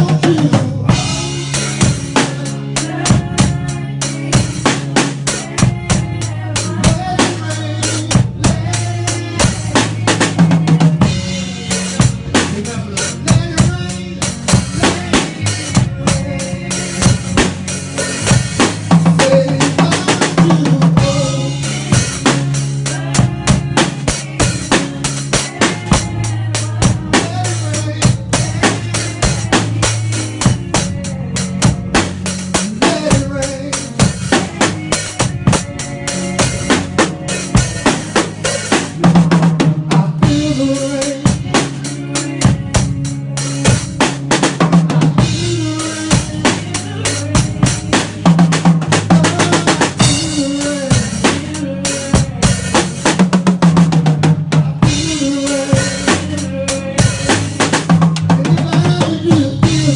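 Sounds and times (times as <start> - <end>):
drum kit beat: 0.0 - 59.9
sustained low bass notes: 0.0 - 59.9
worship band music: 0.0 - 59.9.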